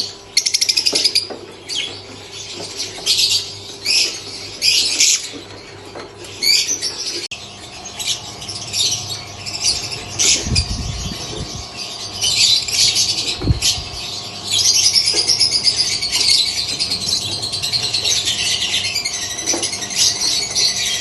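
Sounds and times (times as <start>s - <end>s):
lovebirds chirping and squawking: 0.0s - 21.0s.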